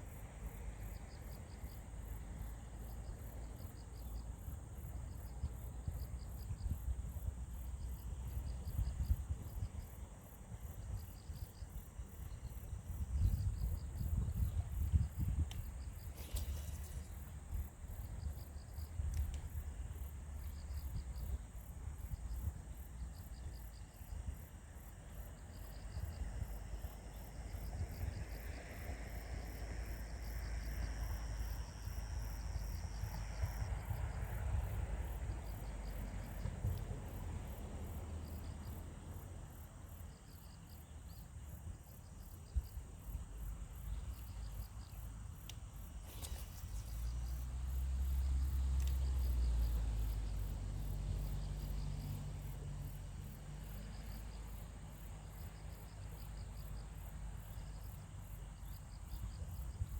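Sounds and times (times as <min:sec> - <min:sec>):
lower insect chirp: 0:00.0 - 0:59.9
high rapid insect pulsing: 0:10.6 - 0:59.9.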